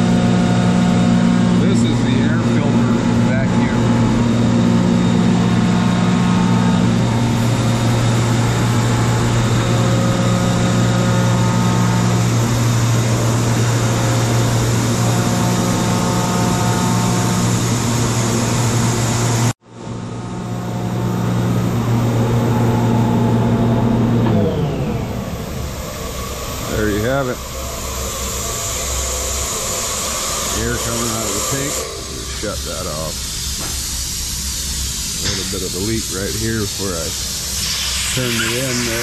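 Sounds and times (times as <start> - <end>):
air compressor humming: 0.0 - 39.0.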